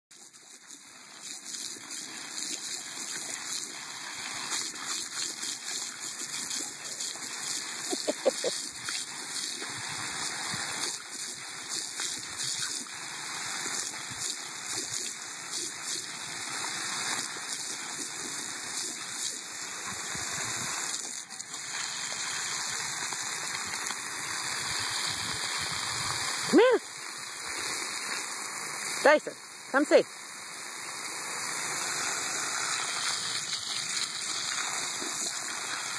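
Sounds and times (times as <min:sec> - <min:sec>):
hose water splashing on grass: 0:00.1 - 0:35.9.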